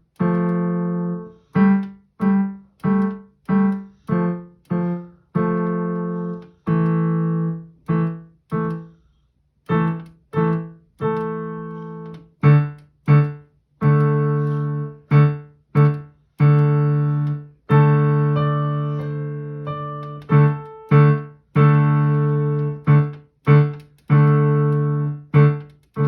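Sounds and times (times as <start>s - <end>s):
solo piano piece: 0.0s - 9.0s, 9.7s - 26.0s.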